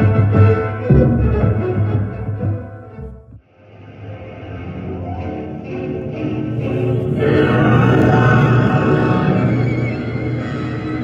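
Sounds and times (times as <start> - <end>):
orchestral soundtrack music: 0.0 - 11.0.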